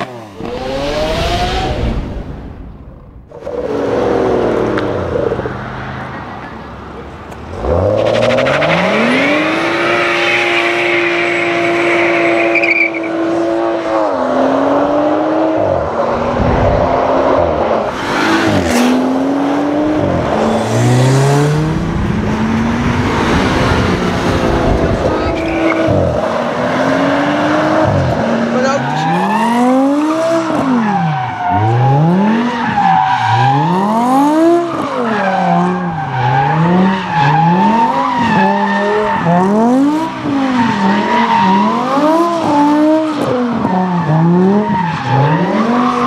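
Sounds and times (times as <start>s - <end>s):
car engine revving: 0.0s - 6.3s, 7.4s - 46.0s.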